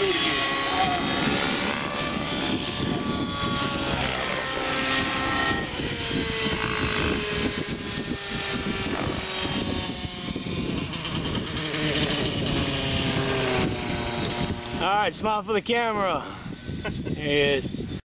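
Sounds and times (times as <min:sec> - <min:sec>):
rc helicopter engine and rotors wailing: 0:00.0 - 0:18.0.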